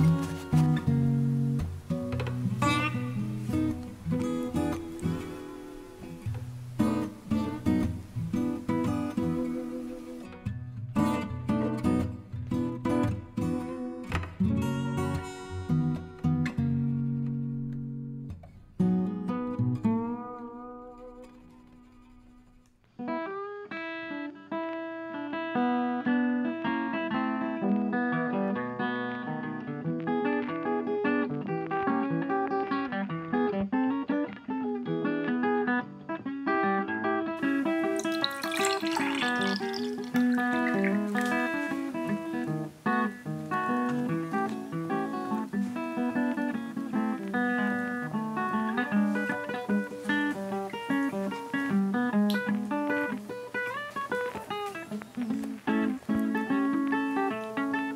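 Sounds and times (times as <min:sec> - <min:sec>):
acoustic guitar picking melody: 0:00.0 - 0:57.9.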